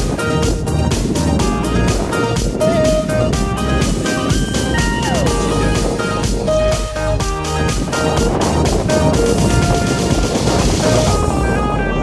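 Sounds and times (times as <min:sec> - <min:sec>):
melody over a noisy wash: 0:00.0 - 0:12.0.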